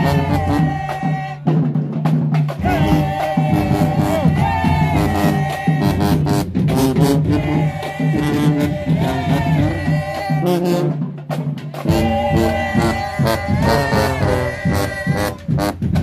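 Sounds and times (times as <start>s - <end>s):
drum hits: 0.0s - 16.0s
marching band playing funk: 0.0s - 16.0s.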